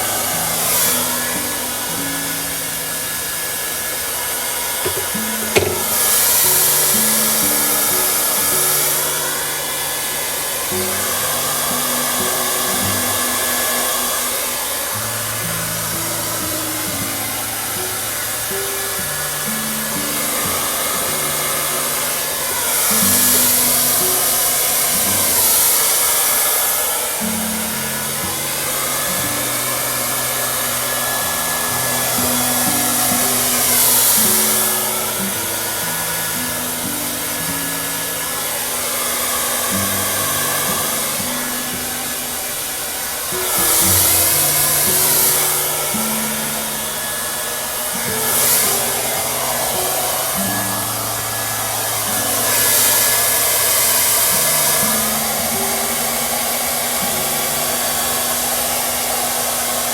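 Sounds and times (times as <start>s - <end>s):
soft background music: 0.0s - 59.4s
hair dryer blowing: 0.0s - 59.9s.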